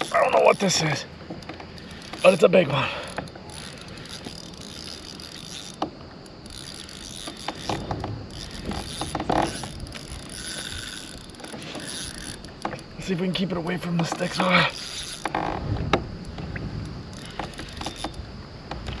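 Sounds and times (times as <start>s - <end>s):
fishing reel cranking and ticking: 0.0s - 19.0s.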